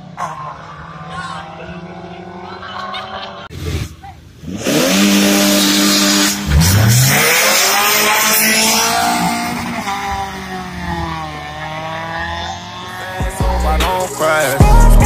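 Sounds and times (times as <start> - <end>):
car engine revving hard: 0.0 - 3.6, 4.4 - 13.6.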